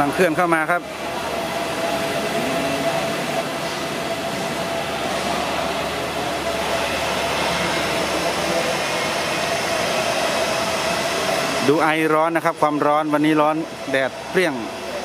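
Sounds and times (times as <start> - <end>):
diesel train engine droning: 0.0 - 15.0.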